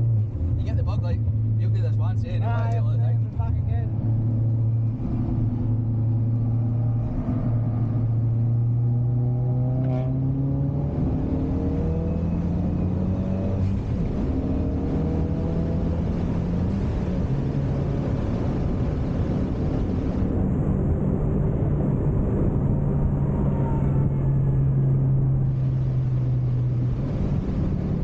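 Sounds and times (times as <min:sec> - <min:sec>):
car engine accelerating: 0:00.0 - 0:28.0
road and tyre noise: 0:00.0 - 0:28.0.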